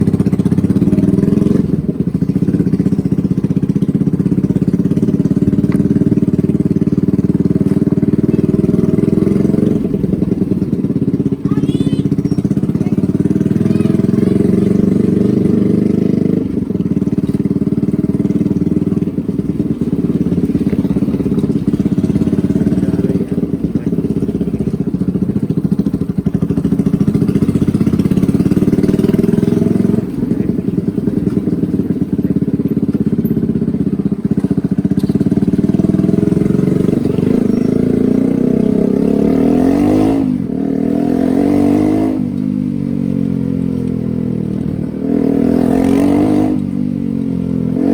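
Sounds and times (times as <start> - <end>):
motorcycle engine drone: 0.0 - 47.9.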